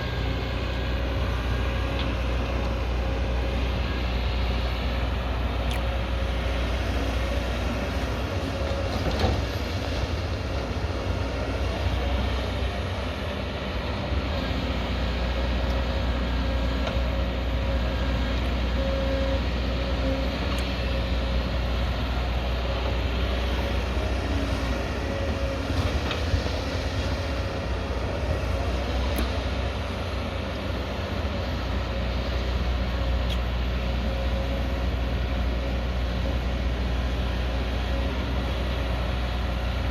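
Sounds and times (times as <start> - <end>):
excavator diesel engine under load: 0.0 - 39.9
steady whine: 0.0 - 39.9.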